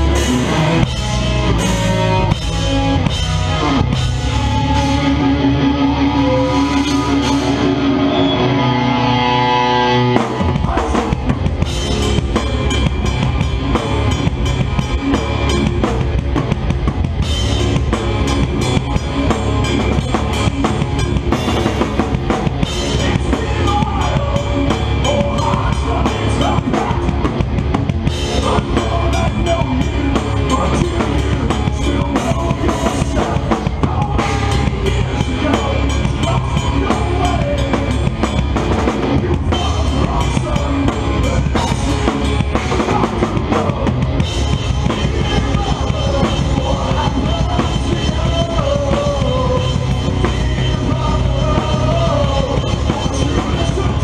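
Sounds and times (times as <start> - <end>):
bass drum: 0.0 - 5.9, 10.1 - 54.0
loud electric guitar: 0.0 - 54.0.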